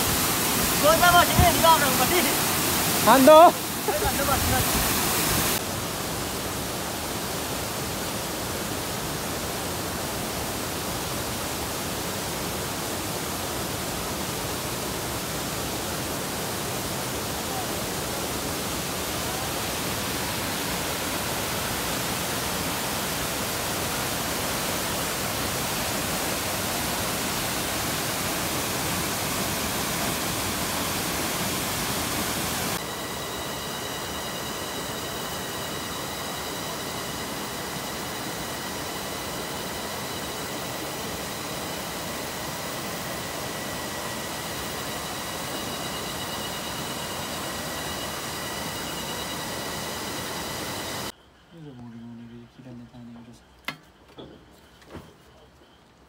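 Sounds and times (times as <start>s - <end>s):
mountain stream rushing: 0.0s - 51.1s.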